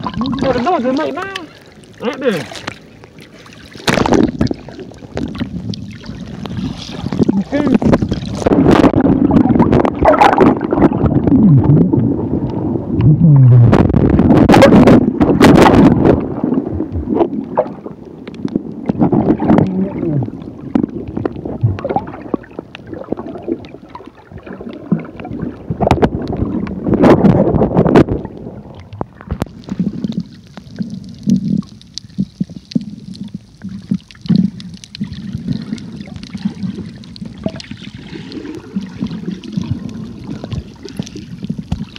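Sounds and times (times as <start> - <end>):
muffled underwater water sloshing: 0.0 - 41.9.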